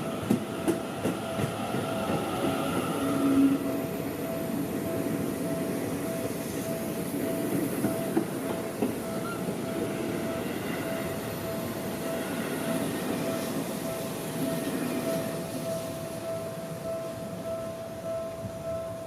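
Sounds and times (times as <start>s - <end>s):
train wheels clattering on rails: 0.0s - 15.8s.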